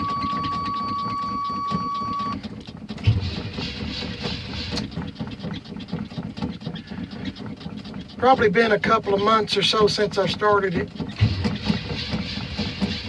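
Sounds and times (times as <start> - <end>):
engine catching and running: 0.0 - 13.0
starter cranking: 0.0 - 13.0.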